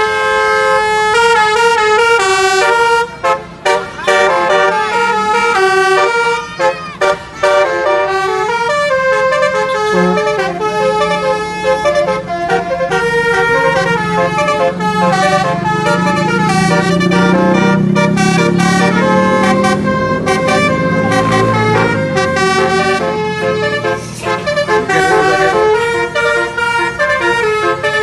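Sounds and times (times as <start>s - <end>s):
multi-trumpet air horn melody: 0.0s - 28.0s.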